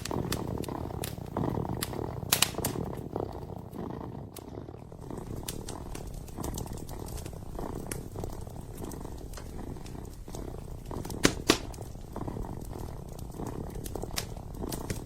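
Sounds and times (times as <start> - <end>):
kitten purring: 0.0 - 15.0
wood fire crackling: 0.0 - 15.0.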